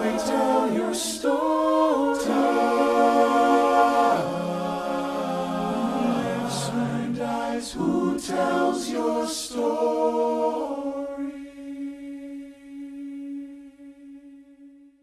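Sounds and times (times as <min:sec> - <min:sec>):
ensemble singing a choral line: 0:00.0 - 0:14.8.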